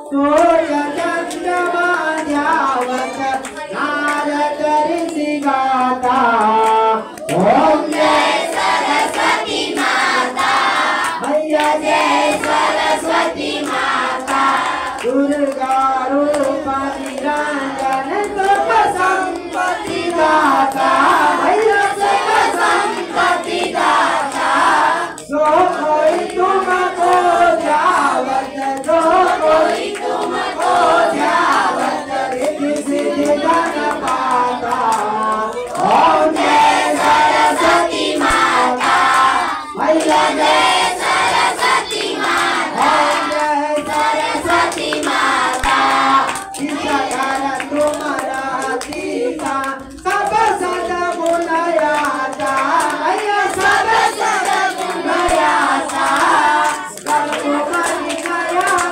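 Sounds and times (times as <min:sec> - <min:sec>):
group singing a devotional song: 0:00.0 - 0:58.9
hand clapping: 0:00.2 - 0:58.9.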